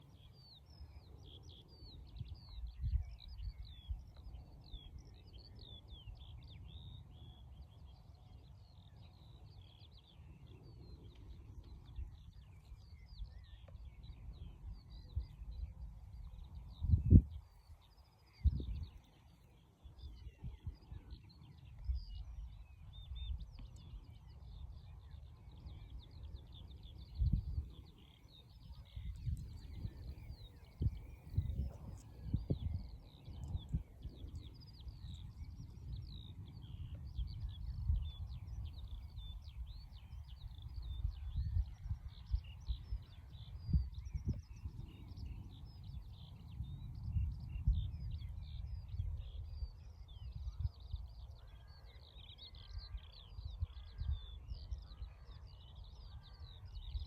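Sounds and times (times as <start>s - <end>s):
small birds singing: 0.0s - 57.0s.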